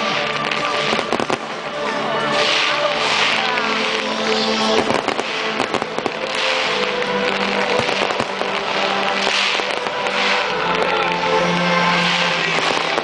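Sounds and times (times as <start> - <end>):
fireworks cracking and crackling: 0.0 - 13.0
fireworks hiss: 0.0 - 13.0
music with long held notes: 0.0 - 13.0.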